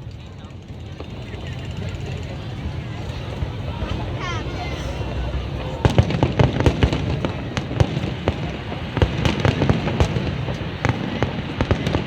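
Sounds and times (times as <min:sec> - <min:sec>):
background rumble: 0:00.0 - 0:12.0
fireworks bangs: 0:00.8 - 0:12.0.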